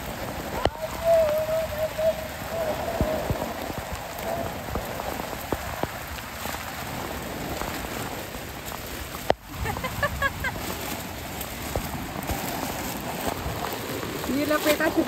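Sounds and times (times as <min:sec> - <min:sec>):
rain on brick pavement: 0:00.0 - 0:15.0.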